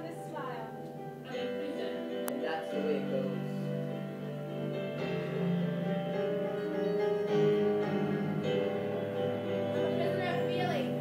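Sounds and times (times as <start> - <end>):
keyboard playing sustained chords: 0.0 - 11.0.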